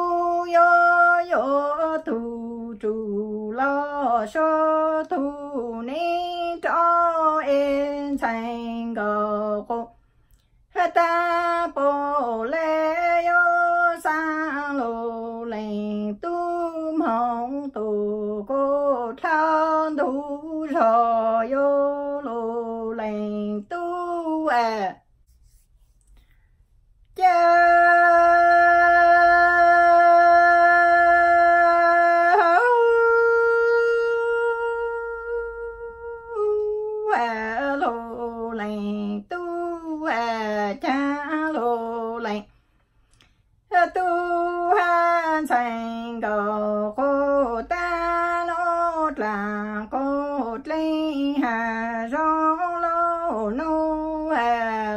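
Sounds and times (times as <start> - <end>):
woman singing unaccompanied: 0.0 - 10.0, 10.7 - 25.1, 27.1 - 42.5, 43.6 - 54.9.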